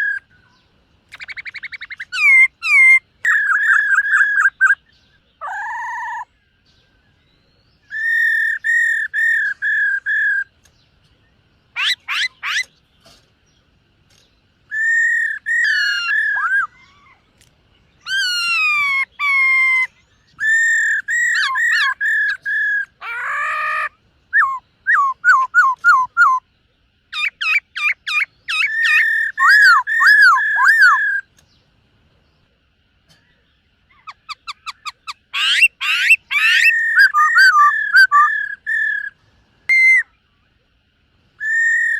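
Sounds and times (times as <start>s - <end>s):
bird singing whistled notes: 0.0s - 31.6s, 33.1s - 40.3s, 41.4s - 41.9s.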